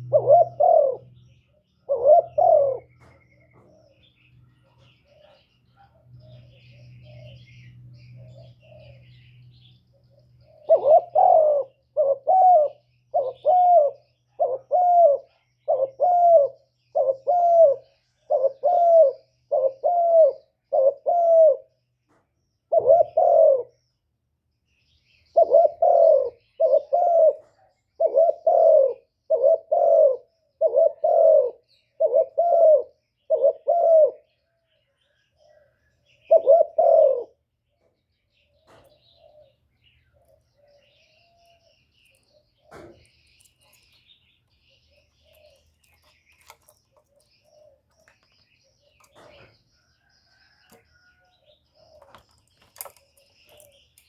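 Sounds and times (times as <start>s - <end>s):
dove low cooing: 0.0s - 21.9s, 22.6s - 23.9s, 25.2s - 54.0s.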